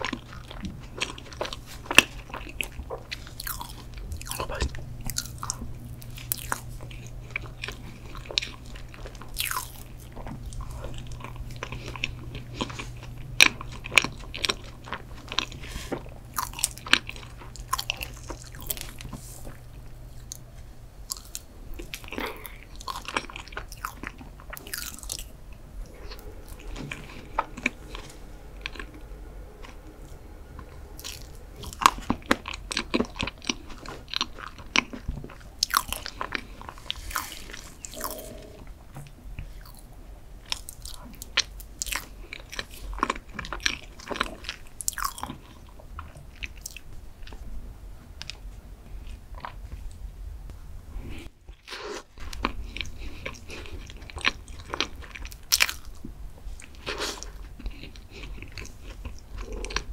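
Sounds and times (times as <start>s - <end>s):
soft chewing and wet mouth sounds: 0.0s - 59.9s.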